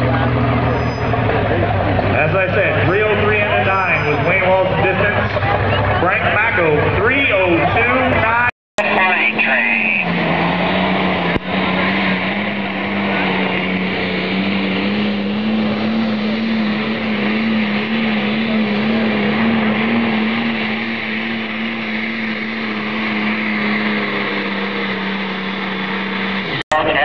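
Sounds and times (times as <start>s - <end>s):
tractor diesel engine drone: 0.0s - 27.0s.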